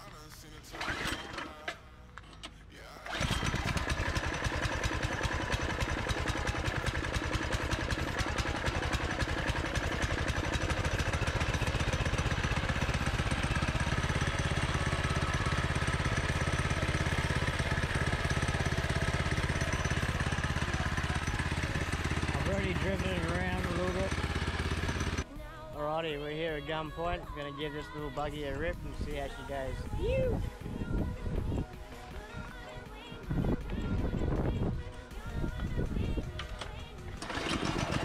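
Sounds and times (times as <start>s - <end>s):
small engine idling: 0.2s - 25.6s, 26.6s - 38.0s.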